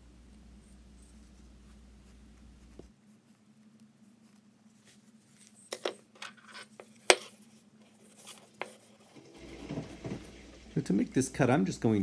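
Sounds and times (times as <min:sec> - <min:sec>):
light clicks and scrapes: 0:00.6 - 0:10.4.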